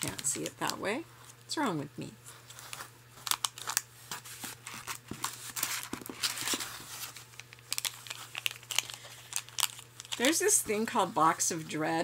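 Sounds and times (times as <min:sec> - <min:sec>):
packaging crinkling: 0:00.0 - 0:01.4, 0:02.3 - 0:10.6.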